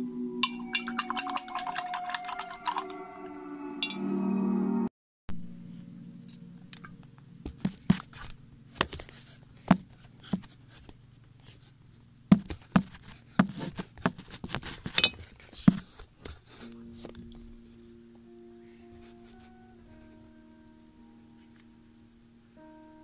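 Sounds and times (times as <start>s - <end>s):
low steady hum: 0.0s - 14.0s, 15.0s - 23.0s.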